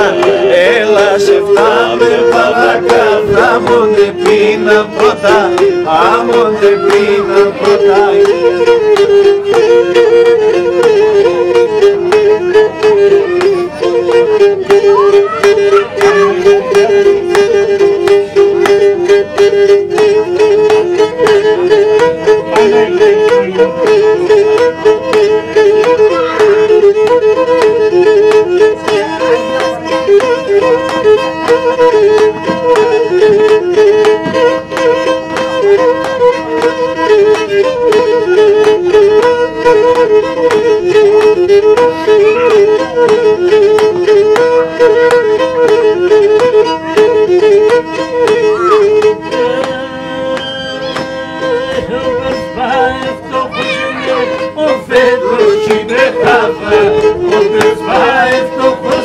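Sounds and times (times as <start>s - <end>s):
bowed lyra melody: 0.0s - 59.0s.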